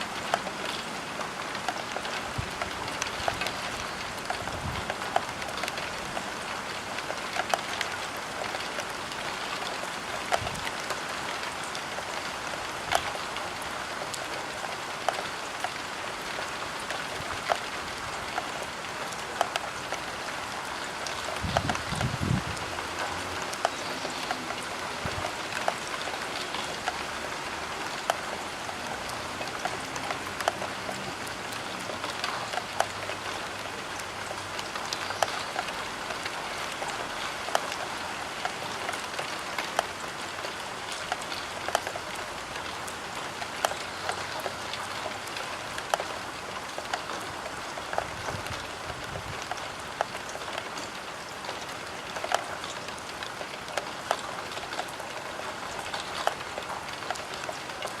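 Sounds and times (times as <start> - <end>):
rain pattering on a roof window: 0.0 - 58.0.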